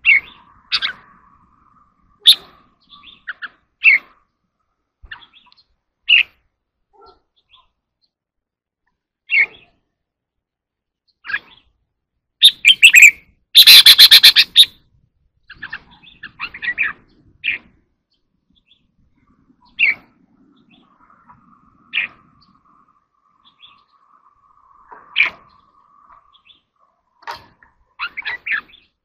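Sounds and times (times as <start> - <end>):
bird singing: 0.0 - 4.4, 5.0 - 8.2, 11.0 - 11.8, 12.4 - 29.0.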